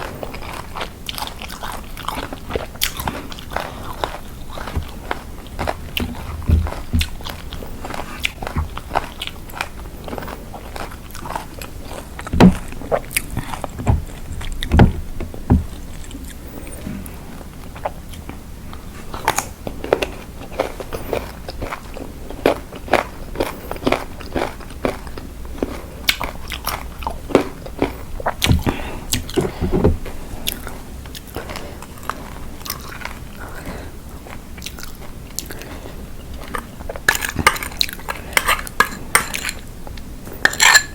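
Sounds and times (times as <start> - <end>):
chewing and crunching salad: 0.0 - 40.9.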